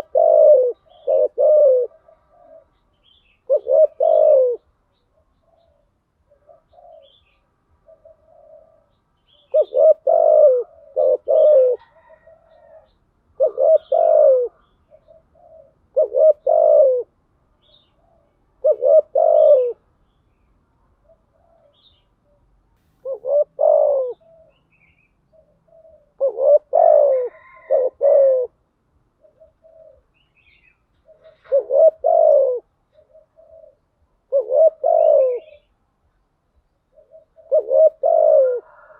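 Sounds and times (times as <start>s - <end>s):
dove cooing: 0.0s - 20.0s, 21.0s - 35.8s, 36.8s - 38.9s.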